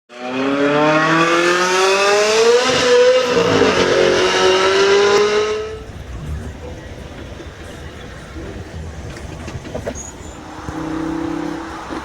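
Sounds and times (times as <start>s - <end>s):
car engine accelerating hard: 0.1s - 12.0s.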